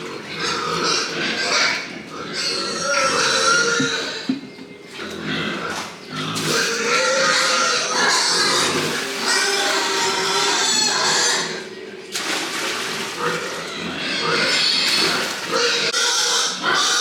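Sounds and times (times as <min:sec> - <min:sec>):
pigs calling: 0:00.0 - 0:17.0.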